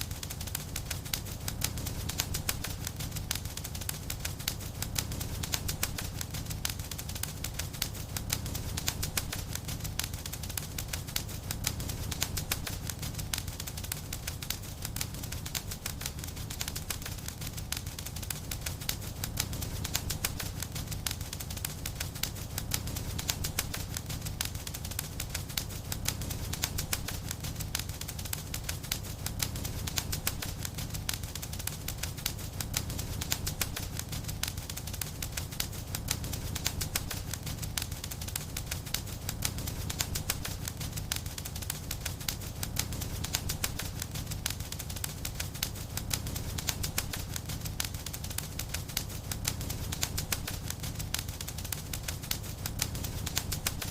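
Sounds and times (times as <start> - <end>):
low rumble of burning: 0.0 - 53.9
wood fire crackling: 0.0 - 53.9.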